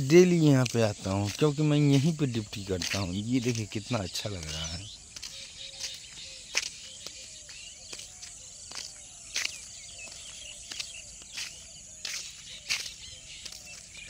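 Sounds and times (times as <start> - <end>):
insects: 0.0 - 14.0
small birds chirping: 0.0 - 14.0.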